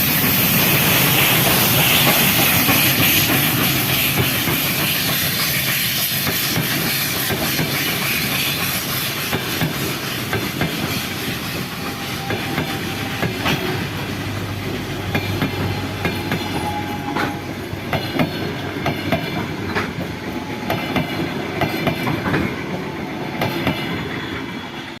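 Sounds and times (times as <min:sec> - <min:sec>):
steam hiss: 0:00.0 - 0:25.0
train rumble: 0:00.0 - 0:25.0
train wheels clacking on rails: 0:00.0 - 0:25.0.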